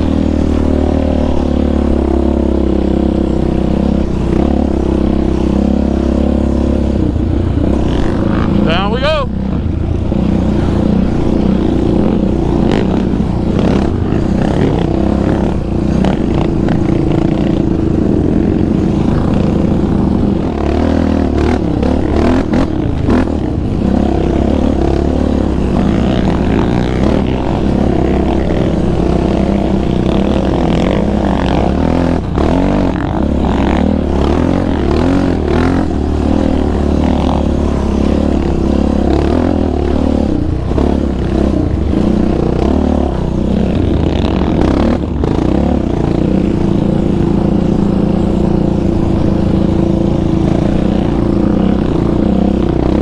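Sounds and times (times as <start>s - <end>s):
quad engine running under throttle: 0.0s - 53.0s.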